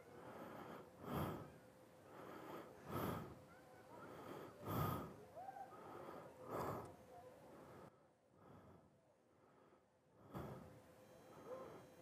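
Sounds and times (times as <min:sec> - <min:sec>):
person breathing: 0:00.0 - 0:12.0.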